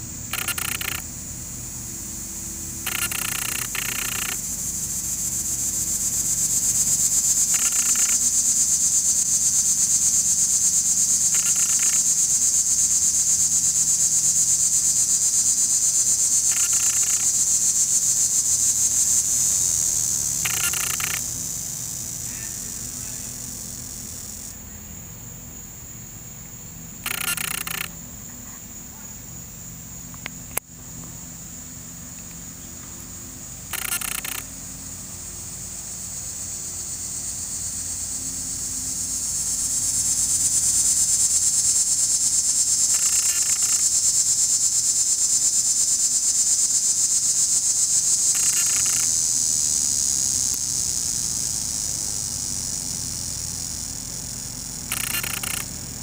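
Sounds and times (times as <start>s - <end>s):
insect buzzing: 0.0s - 56.0s.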